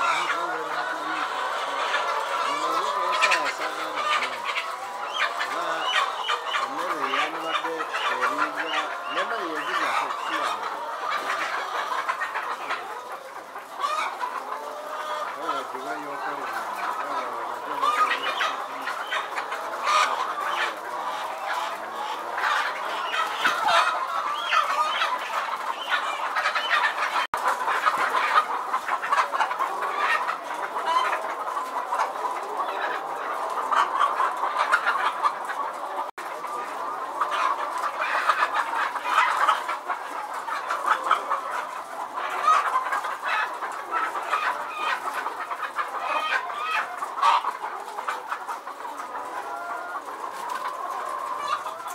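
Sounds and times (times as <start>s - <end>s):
hens clucking: 0.0s - 51.9s.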